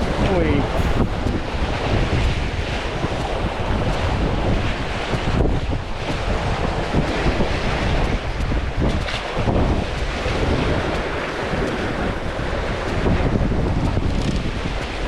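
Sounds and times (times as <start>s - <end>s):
sea waves against concrete: 0.0s - 15.0s
wind buffeting microphone: 0.0s - 15.0s.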